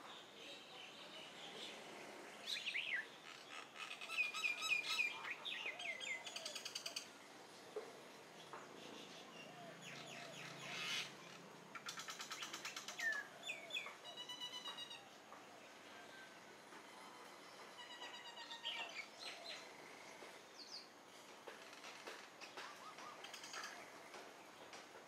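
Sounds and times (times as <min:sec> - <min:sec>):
birds whistling and chattering: 0:01.5 - 0:07.2, 0:08.4 - 0:20.9, 0:21.5 - 0:24.8.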